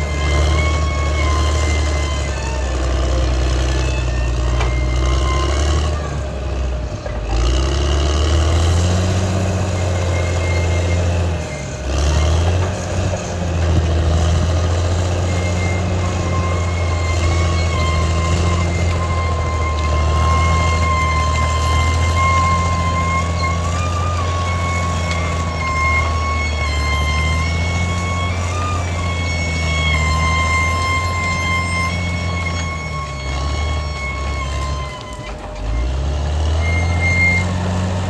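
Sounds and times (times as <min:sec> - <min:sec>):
bulldozer diesel engine under load: 0:00.0 - 0:38.0.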